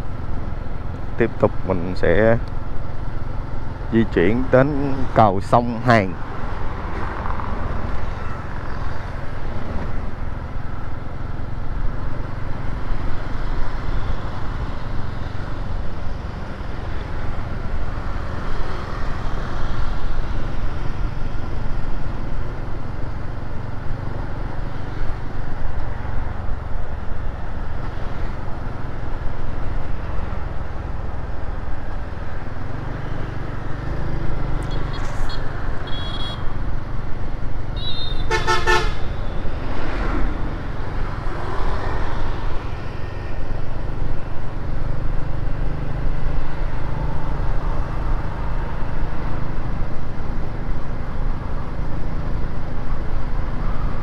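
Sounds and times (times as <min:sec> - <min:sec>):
scooter engine and road noise: 0:00.0 - 0:54.0.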